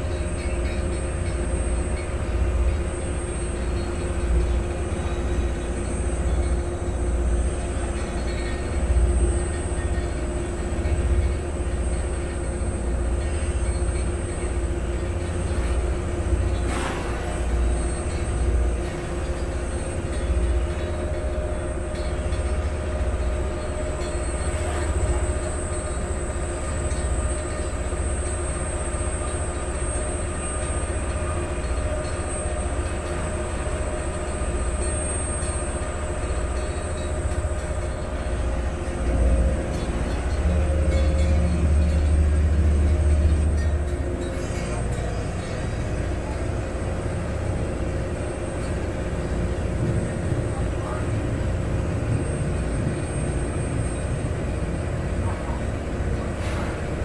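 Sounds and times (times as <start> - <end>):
boat diesel engine droning: 0.0 - 57.0
water rushing along hull: 0.0 - 57.0.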